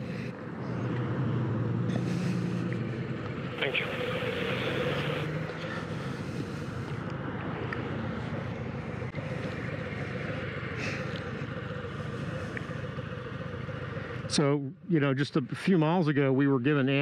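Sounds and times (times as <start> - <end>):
car driving past: 0.0 - 14.3
motorcycles idling: 0.0 - 17.0.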